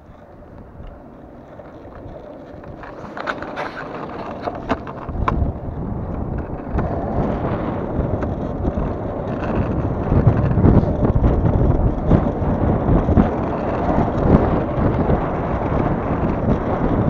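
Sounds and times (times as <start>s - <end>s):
longboard rolling on asphalt: 0.0s - 17.0s
wind buffeting microphone: 0.0s - 17.0s.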